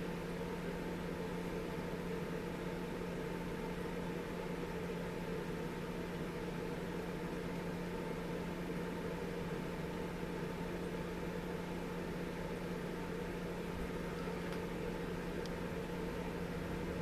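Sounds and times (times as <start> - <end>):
fan motor hum: 0.0 - 17.0.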